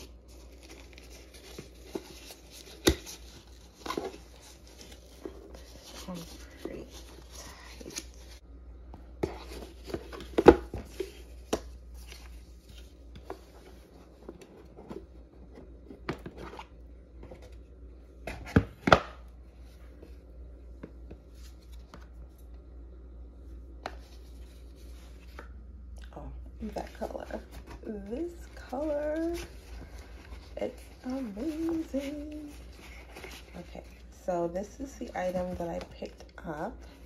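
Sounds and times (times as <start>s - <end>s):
soft handling noise: 0.0s - 37.0s.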